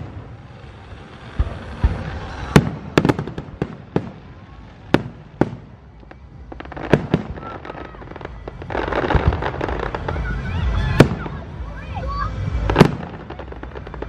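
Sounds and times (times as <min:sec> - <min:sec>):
crackling firework pops: 0:01.2 - 0:11.4, 0:12.6 - 0:14.0.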